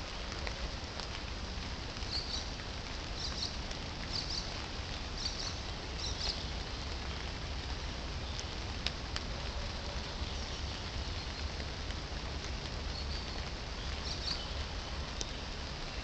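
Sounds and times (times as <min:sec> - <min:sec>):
rain on foliage: 0:00.0 - 0:16.0.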